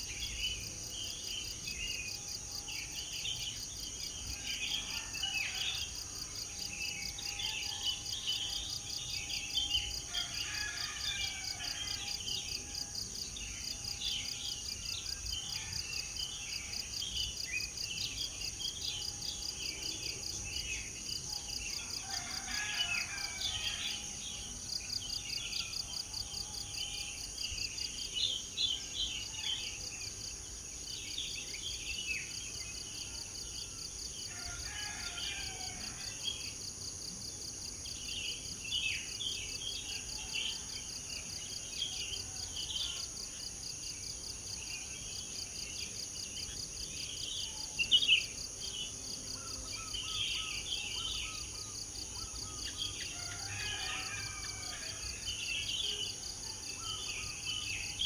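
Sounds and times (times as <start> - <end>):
high insect trill: 0.0 - 58.0.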